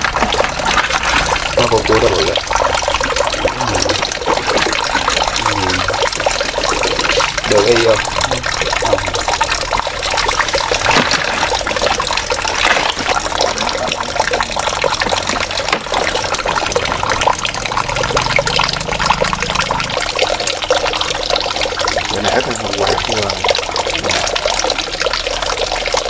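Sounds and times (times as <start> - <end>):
water trickling and splashing: 0.0 - 26.0.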